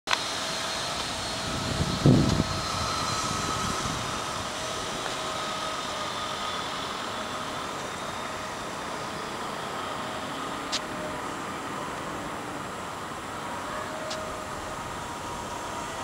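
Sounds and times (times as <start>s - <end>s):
distant traffic hum: 0.1s - 16.0s
faint steady tones: 0.2s - 16.0s.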